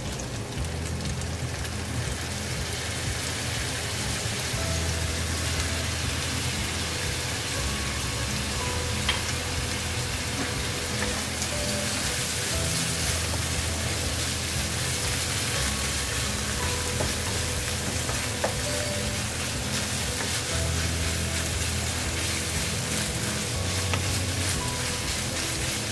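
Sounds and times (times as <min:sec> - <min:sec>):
meat sizzling in a pan: 0:00.0 - 0:25.9.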